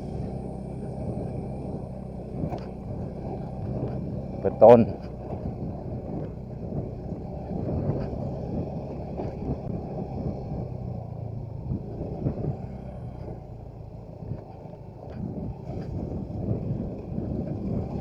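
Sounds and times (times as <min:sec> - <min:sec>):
motorcycle engine rumbling: 0:00.0 - 0:18.0
wind noise on microphone: 0:00.0 - 0:18.0.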